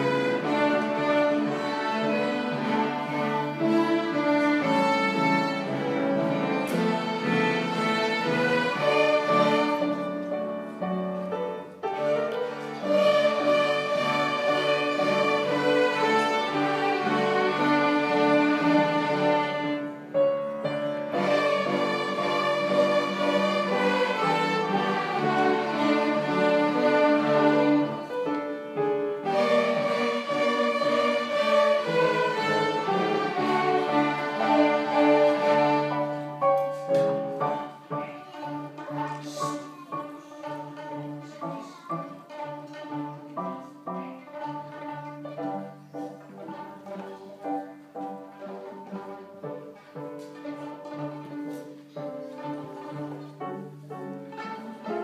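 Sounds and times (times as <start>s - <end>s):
string orchestra playing: 0.0s - 55.0s.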